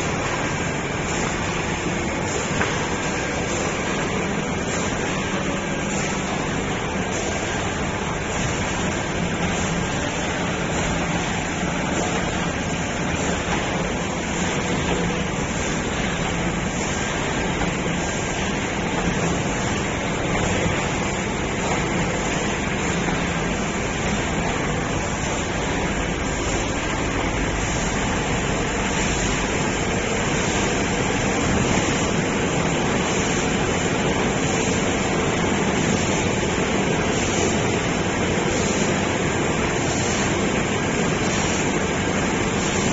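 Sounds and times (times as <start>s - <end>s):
laminating machine running: 0.0s - 42.9s.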